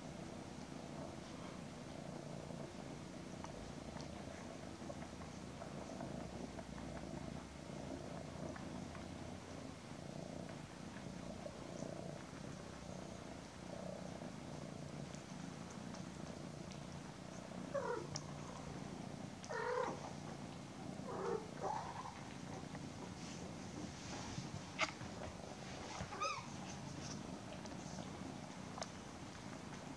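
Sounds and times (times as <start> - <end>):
cats purring: 0.0 - 29.9.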